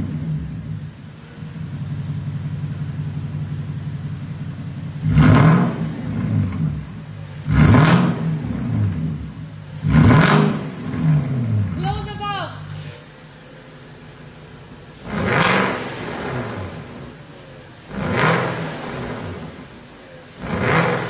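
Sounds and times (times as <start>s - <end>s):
engine revving: 0.0s - 13.1s, 14.9s - 21.0s
car engine idling: 0.0s - 21.0s.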